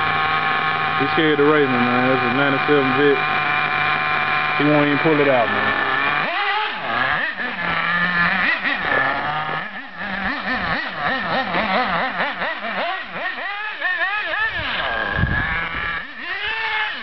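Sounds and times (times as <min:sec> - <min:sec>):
small nitro engine revving: 0:00.0 - 0:17.0.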